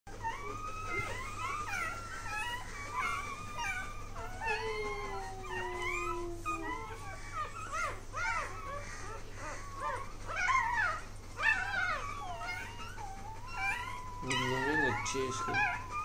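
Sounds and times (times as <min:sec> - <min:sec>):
puppies whimpering and squeaking: 0:00.1 - 0:16.0.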